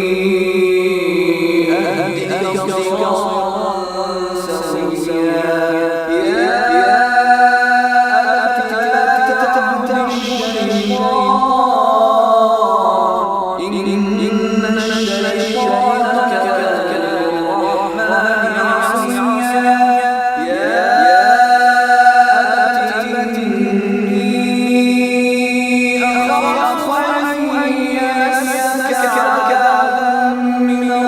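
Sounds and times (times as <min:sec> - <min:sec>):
man chanting recitation: 0:00.0 - 0:31.0.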